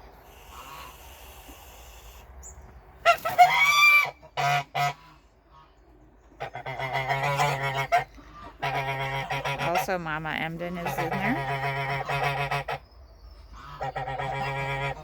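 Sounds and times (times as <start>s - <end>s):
geese honking: 0.0s - 2.3s, 3.0s - 5.8s, 6.4s - 12.9s, 13.5s - 15.0s.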